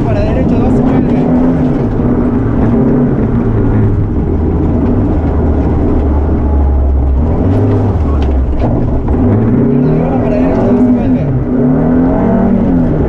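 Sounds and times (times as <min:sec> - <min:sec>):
rally car engine under load: 0:00.0 - 0:13.0
road and tyre noise: 0:00.0 - 0:13.0.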